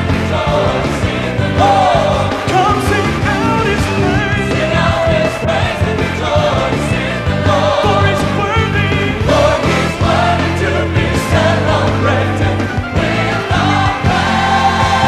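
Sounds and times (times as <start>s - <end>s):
band with bass and drums: 0.0s - 15.0s
gospel choir singing: 0.0s - 15.0s.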